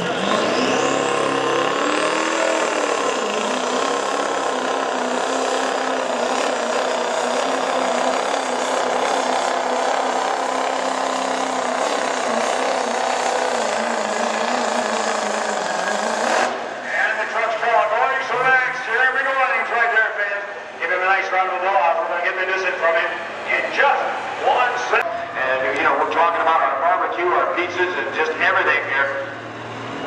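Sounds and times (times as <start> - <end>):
diesel engine at high revs: 0.0 - 30.0.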